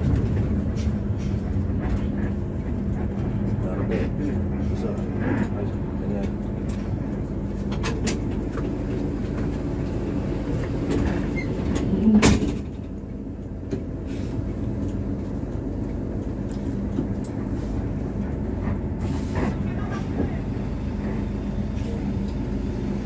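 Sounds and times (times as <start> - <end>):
diesel engine running: 0.0 - 23.0
low road rumble: 0.0 - 23.0.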